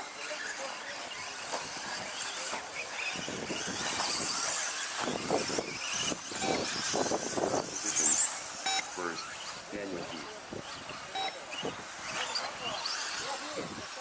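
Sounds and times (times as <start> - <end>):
rc truck motors whining: 0.0 - 14.0
tyre and chassis noise: 0.0 - 14.0.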